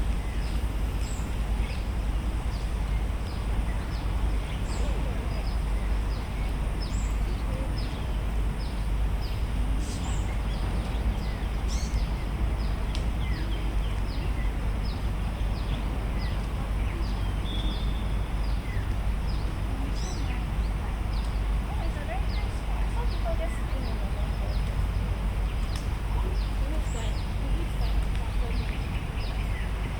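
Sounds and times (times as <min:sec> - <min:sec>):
low outdoor rumble: 0:00.0 - 0:29.9
small birds chirping: 0:00.0 - 0:29.9.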